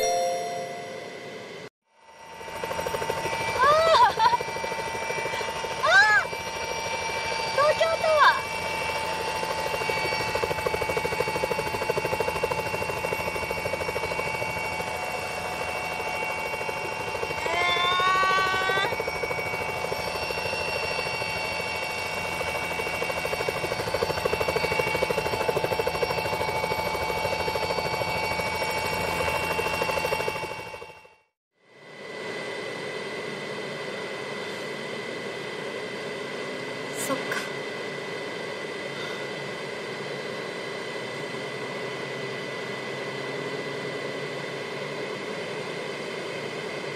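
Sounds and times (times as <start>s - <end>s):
helicopter turbine and rotor: 0.1s - 46.9s.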